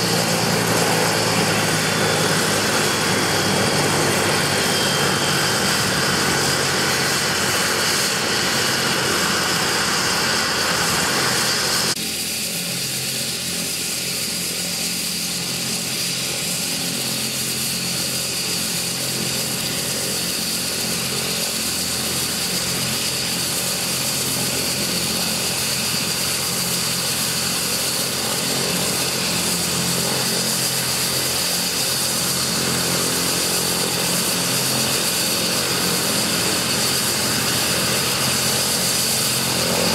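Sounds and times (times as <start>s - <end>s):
helicopter rotor and engine noise: 0.0s - 39.9s
helicopter turbine whine: 0.0s - 39.9s.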